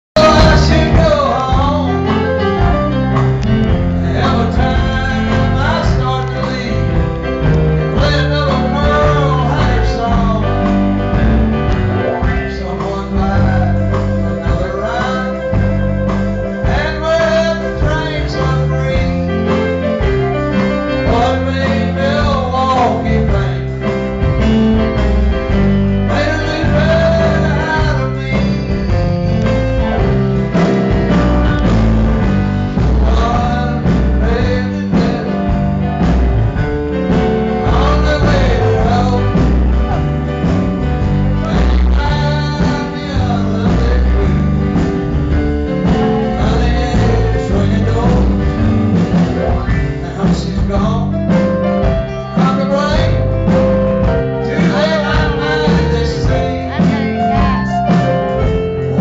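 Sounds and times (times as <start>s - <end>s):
man singing: 0.0s - 11.3s, 12.0s - 24.4s, 25.4s - 40.4s, 41.0s - 59.0s
live country blues band: 0.2s - 59.0s.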